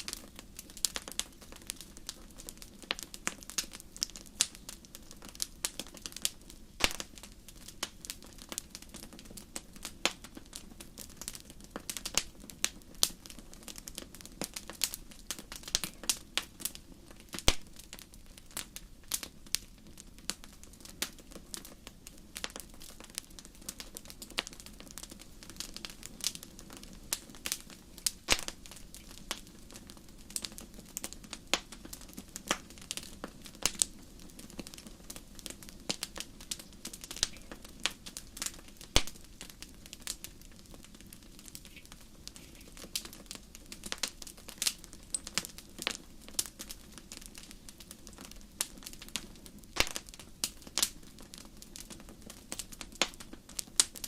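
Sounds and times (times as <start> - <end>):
fire crackling and popping: 0.0 - 54.0
flames hissing: 0.0 - 54.0.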